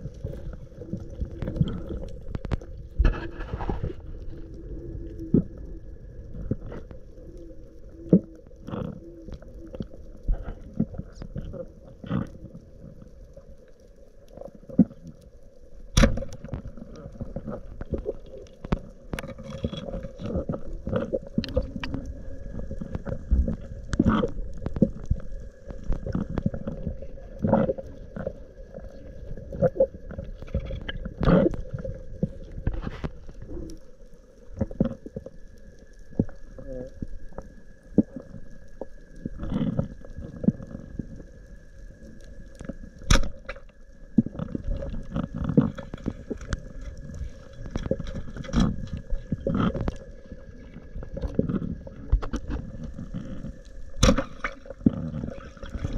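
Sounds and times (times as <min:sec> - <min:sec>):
muffled underwater water movement: 0:00.0 - 0:55.9.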